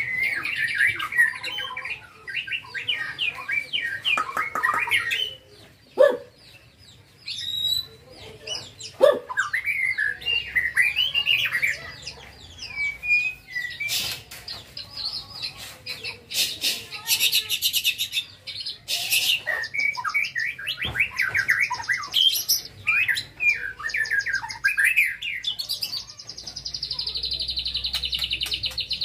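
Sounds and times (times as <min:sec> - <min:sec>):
bird singing trills and whistles: 0:00.0 - 0:29.0.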